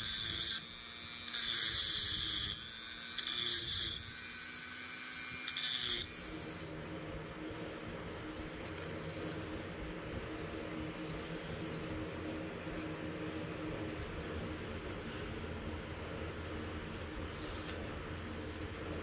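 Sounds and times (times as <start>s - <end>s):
rotary tool grinding steel: 0.0s - 19.0s.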